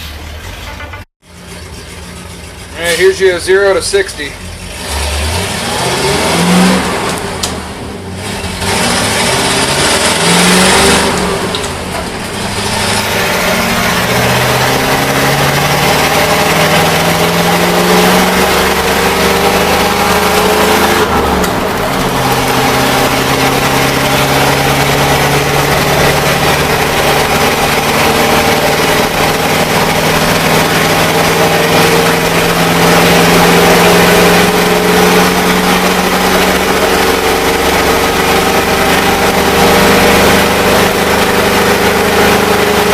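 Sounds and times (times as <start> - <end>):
bus engine accelerating: 0.0 - 42.9.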